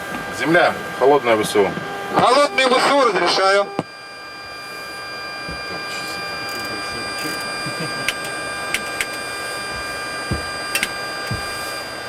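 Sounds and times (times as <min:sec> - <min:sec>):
turbine starter whining: 0:00.0 - 0:12.0.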